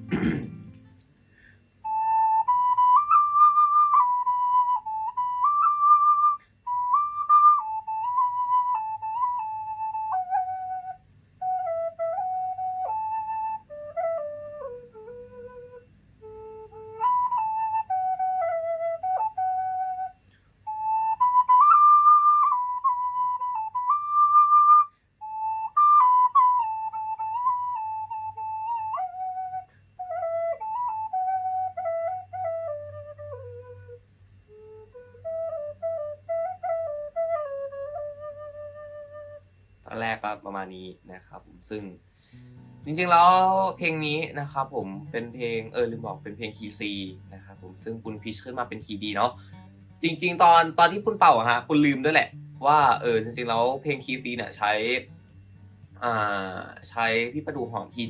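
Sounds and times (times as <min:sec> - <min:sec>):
bamboo flute solo melody: 0:01.8 - 0:41.9, 0:42.8 - 0:55.2, 0:56.0 - 0:58.0.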